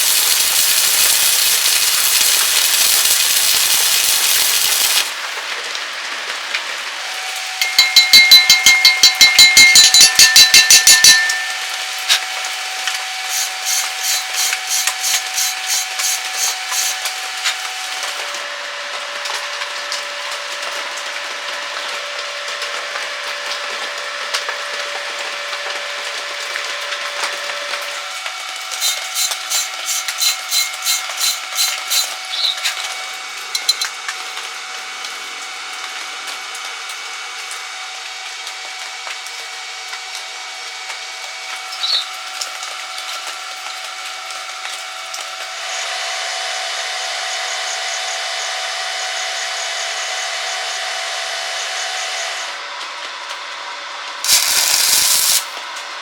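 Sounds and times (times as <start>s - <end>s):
arc welding crackling hiss: 0.0s - 18.6s, 27.7s - 52.6s, 54.2s - 55.8s.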